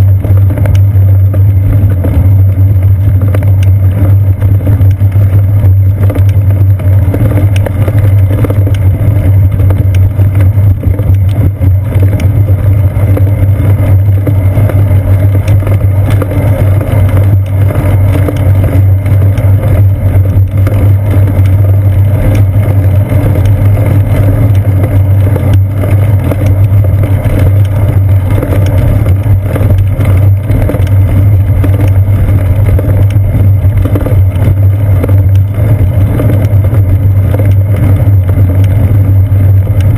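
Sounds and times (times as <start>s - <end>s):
bicycle rolling on pavement: 0.0s - 39.9s.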